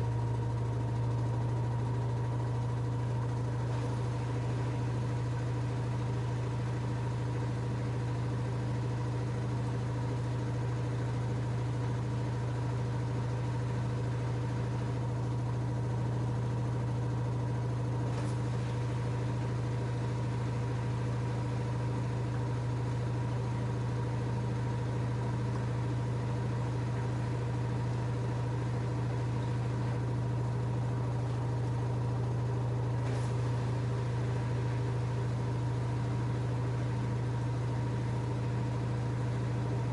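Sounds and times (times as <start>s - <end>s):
washing machine spinning hum: 0.0s - 39.9s.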